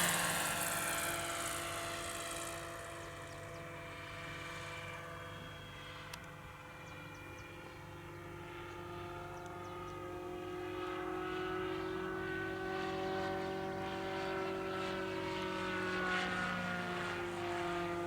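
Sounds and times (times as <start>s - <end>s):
helicopter whine: 0.0s - 18.0s.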